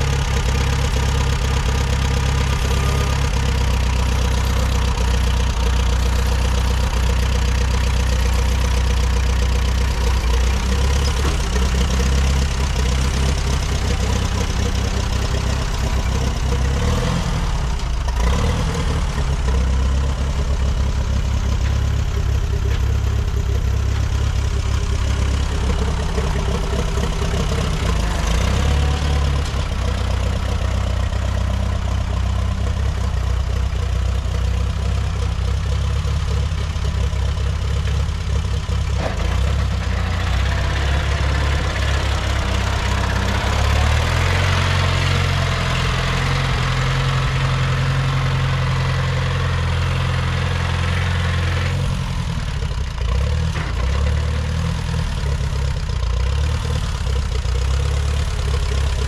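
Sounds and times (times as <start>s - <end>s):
tractor engine running at low revs: 0.0s - 59.0s.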